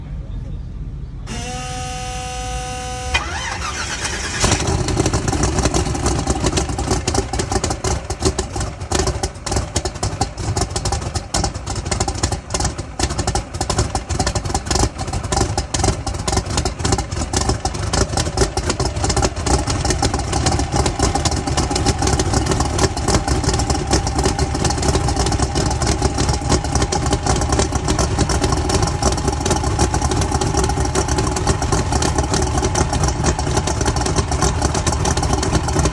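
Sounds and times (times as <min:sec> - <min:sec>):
engine idling loud and choppy: 0:02.2 - 0:35.9
engine starter cranking: 0:03.0 - 0:35.9
engine popping unevenly: 0:03.2 - 0:35.9.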